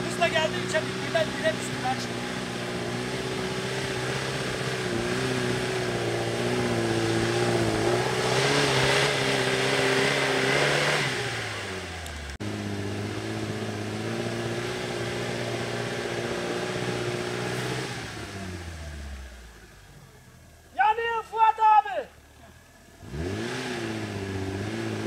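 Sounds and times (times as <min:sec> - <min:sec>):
car engine revving under load: 0:00.0 - 0:20.7, 0:22.2 - 0:25.0.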